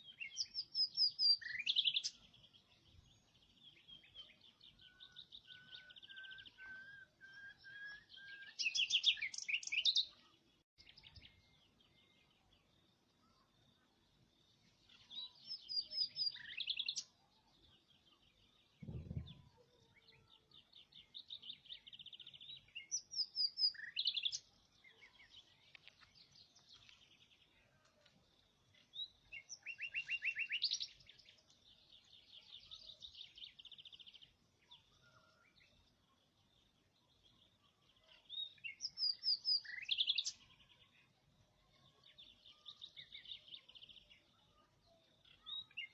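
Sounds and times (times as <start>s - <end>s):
songbird trills and chirps: 0.0s - 45.9s.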